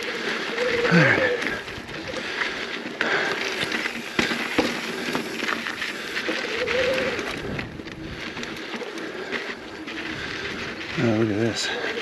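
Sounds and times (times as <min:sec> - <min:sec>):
bike rattle: 0:00.0 - 0:12.0
tyres crunching over dirt and rock: 0:00.0 - 0:12.0.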